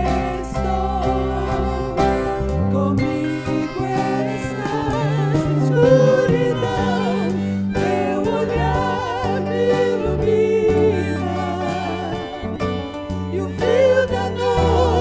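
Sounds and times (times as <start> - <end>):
guitar and bass: 0.0 - 15.0
worship song with vocals: 0.0 - 15.0.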